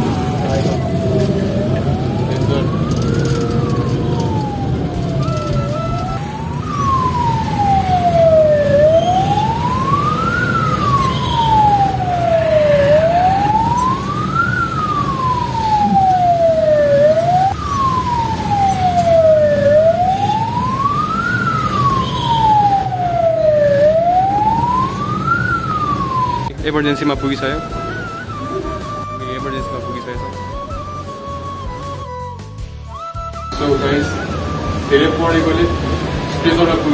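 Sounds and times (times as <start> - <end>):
ambulance siren wailing: 0.0 - 36.9.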